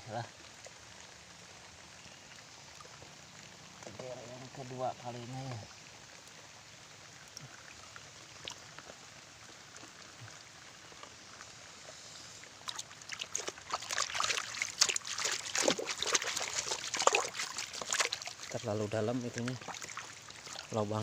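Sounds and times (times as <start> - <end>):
faint steady hiss: 0.0 - 21.0
pond water splashing: 0.0 - 21.0.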